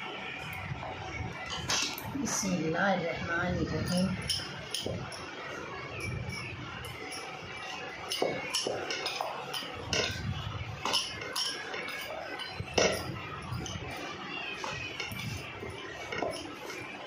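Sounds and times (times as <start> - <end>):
rolling pin rolling dough: 0.0 - 17.0.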